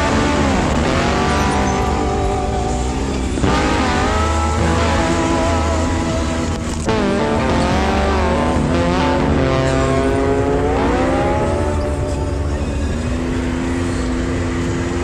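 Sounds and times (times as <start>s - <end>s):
utility vehicle engine revving: 0.0s - 15.0s.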